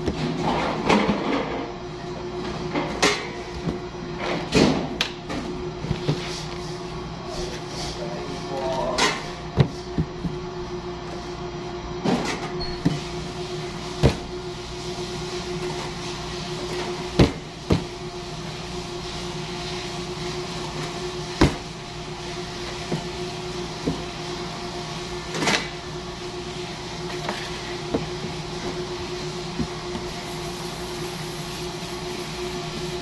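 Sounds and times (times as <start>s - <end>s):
kitchen equipment hum: 0.0s - 33.0s.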